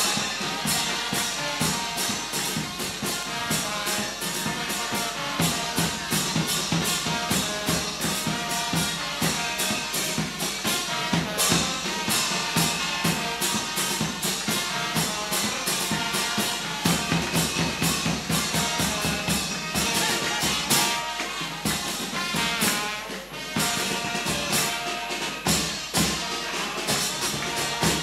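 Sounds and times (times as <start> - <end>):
hand cymbals clashing: 0.0 - 28.0
marching bass drum: 0.0 - 28.0
snare drum: 0.0 - 28.0
trumpets and trombones: 0.0 - 28.0.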